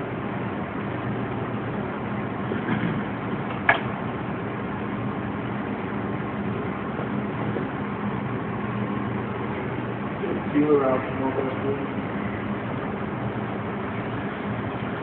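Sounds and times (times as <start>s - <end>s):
kitchen machinery drone: 0.0s - 15.0s.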